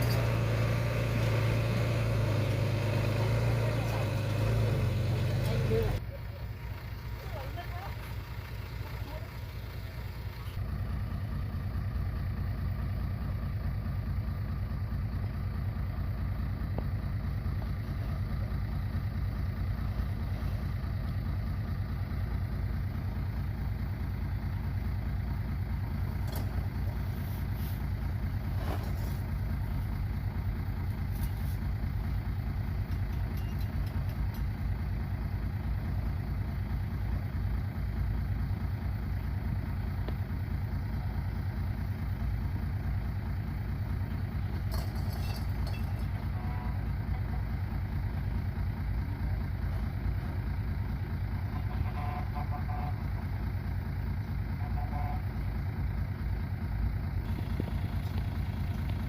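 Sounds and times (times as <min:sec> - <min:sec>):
diesel machinery rumbling: 0:00.0 - 0:59.0.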